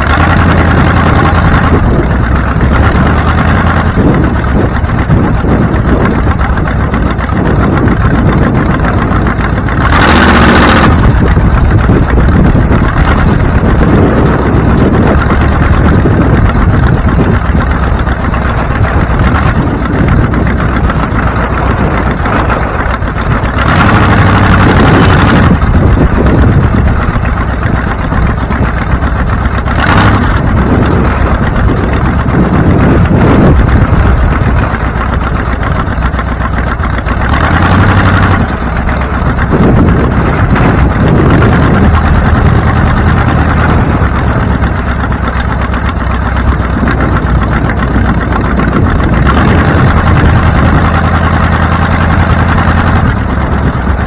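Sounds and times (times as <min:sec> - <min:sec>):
car engine while driving: 0:00.0 - 0:54.0
road noise: 0:00.0 - 0:54.0.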